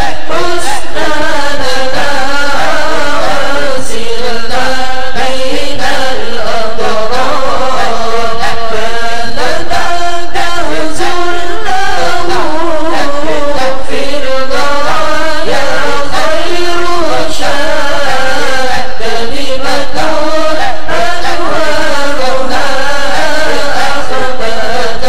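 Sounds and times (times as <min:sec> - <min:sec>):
melodic chanting voice: 0:00.0 - 0:25.0.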